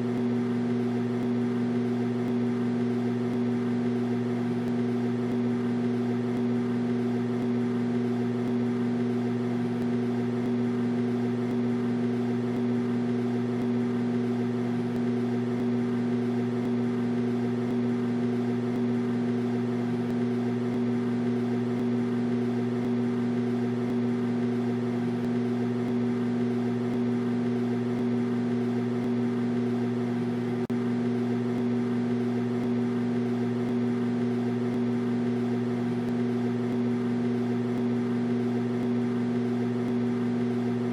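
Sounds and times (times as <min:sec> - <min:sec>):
fan and turntable whir: 0:00.0 - 0:40.9
microwave oven hum: 0:00.0 - 0:40.9.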